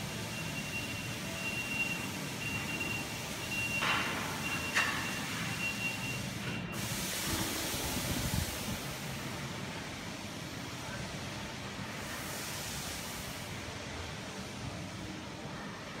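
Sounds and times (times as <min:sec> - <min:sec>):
air noise hiss: 0:00.0 - 0:16.0.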